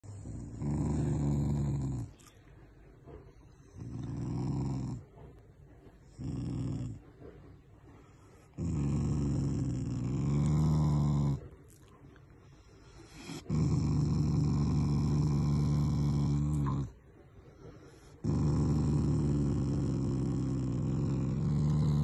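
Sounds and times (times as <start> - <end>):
dog growling: 0.0 - 2.3, 3.1 - 5.4, 6.0 - 17.0, 17.6 - 22.0.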